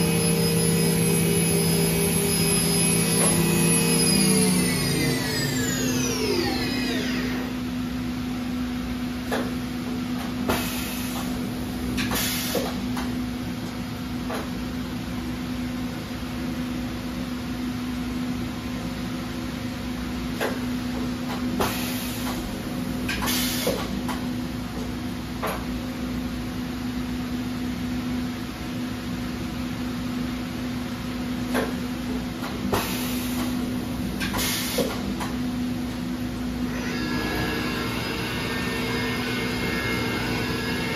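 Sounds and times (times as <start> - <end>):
machining center hum: 0.0 - 40.9.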